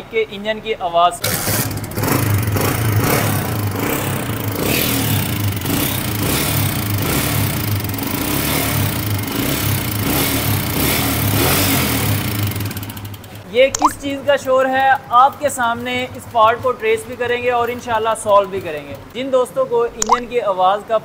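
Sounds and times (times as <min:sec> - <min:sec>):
mechanical ticking in engine: 0:01.2 - 0:19.2
motorcycle engine idling: 0:01.2 - 0:19.2.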